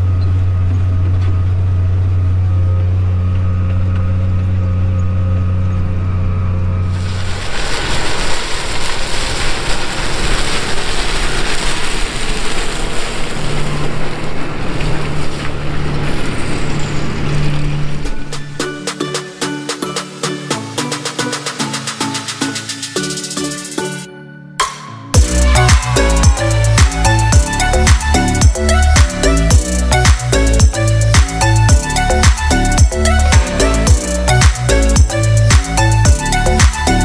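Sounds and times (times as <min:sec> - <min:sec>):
stalk shredder running: 0:00.0 - 0:18.6, 0:25.2 - 0:37.0
tractor engine droning: 0:00.0 - 0:21.6, 0:24.6 - 0:37.0.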